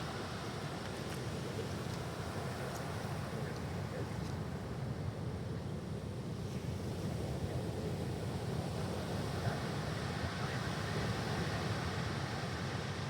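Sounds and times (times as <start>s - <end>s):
surf on stony beach: 0.0s - 13.0s.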